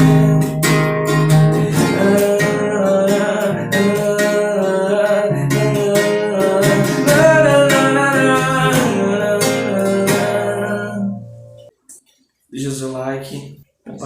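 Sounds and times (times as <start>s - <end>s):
acoustic guitar strumming: 0.0s - 11.7s.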